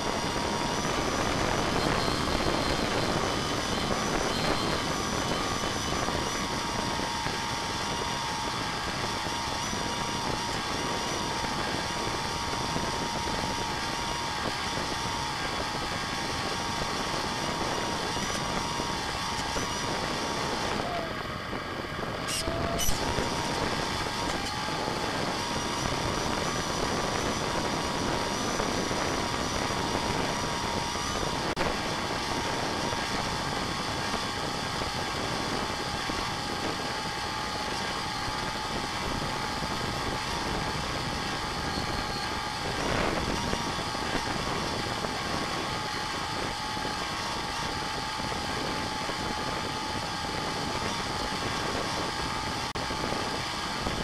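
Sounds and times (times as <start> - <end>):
model plane motor and propeller: 0.0 - 54.0
rushing wind: 0.0 - 54.0.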